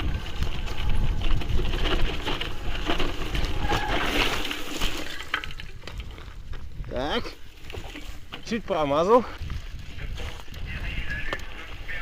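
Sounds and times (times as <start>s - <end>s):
wind rumble on microphone: 0.0s - 4.5s, 5.4s - 12.0s
bike tyre noise: 0.0s - 12.0s.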